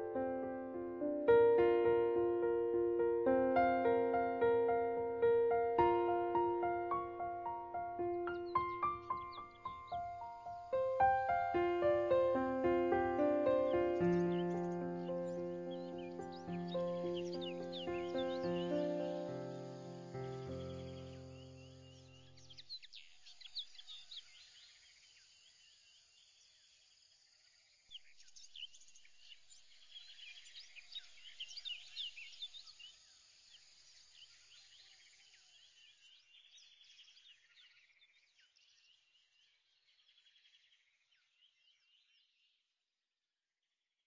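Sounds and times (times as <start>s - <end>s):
light steady hiss: 0.0s - 36.2s
small birds chirping: 0.0s - 42.7s.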